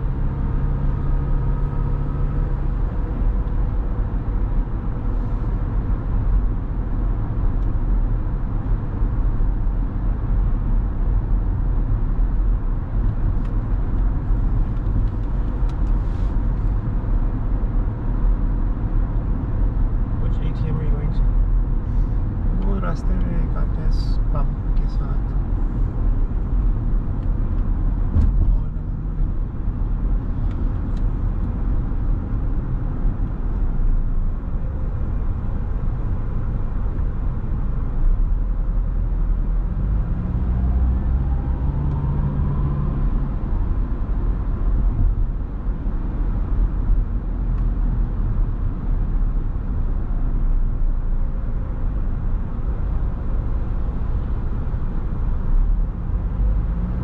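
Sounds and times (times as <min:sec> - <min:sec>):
car interior driving rumble: 0:00.0 - 0:57.0.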